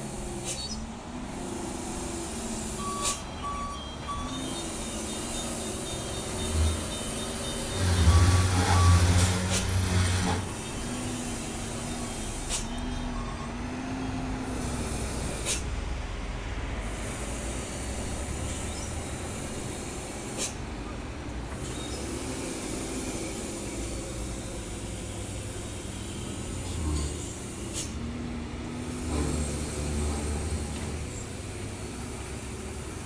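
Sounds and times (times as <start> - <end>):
diesel truck engine working: 0.0 - 33.0.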